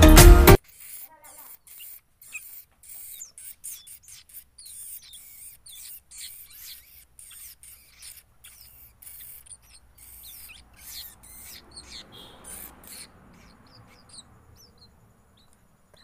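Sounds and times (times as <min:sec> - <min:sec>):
fledglings begging squeaks: 0:00.0 - 0:16.0.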